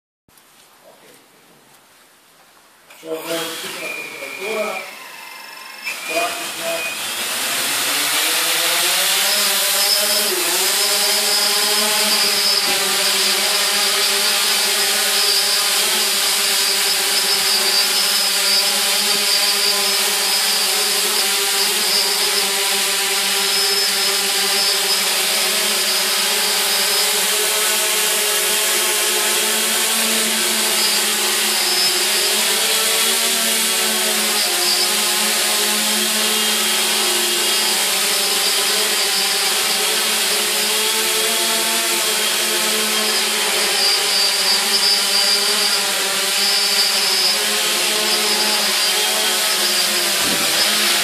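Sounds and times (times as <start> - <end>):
drone rotors buzzing: 3.2 - 51.0.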